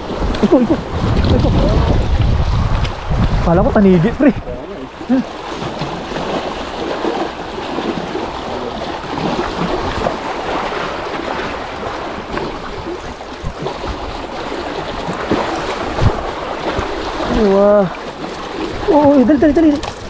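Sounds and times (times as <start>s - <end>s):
waves splashing over rocks: 0.0s - 20.0s.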